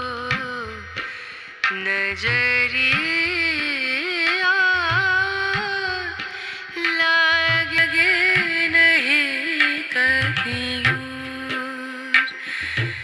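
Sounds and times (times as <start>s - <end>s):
woman singing ornamented vocal: 0.0s - 13.0s.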